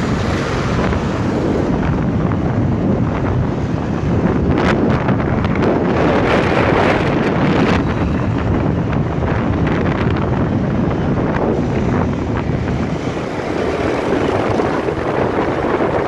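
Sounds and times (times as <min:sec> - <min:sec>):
motorcycle engine: 0:00.0 - 0:16.0
road noise: 0:00.0 - 0:16.0
wind buffeting microphone: 0:00.0 - 0:16.0.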